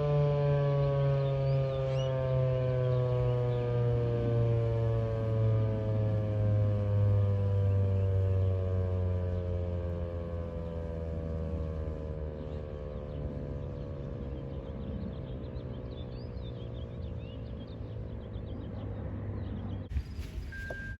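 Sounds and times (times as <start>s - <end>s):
warning siren winding down: 0.0s - 18.1s
steady low hum: 0.1s - 20.9s.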